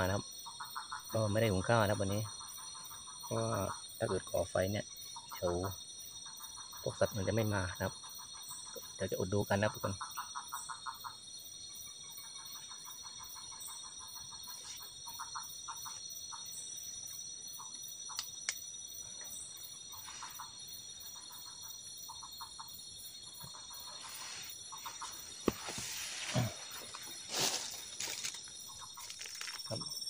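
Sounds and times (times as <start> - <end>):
rapid pulsed animal calls: 0.0 - 9.1, 9.7 - 30.0
insect chorus: 0.0 - 30.0.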